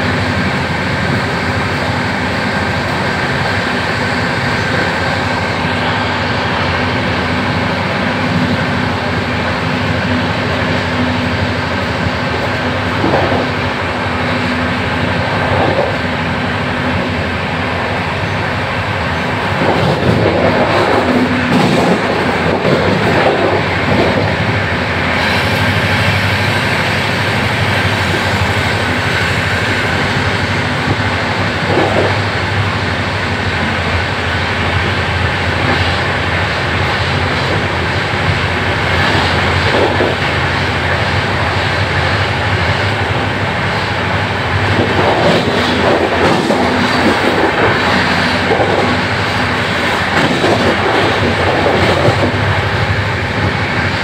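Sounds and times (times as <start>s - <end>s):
train wheels rushing on track: 0.0s - 54.0s.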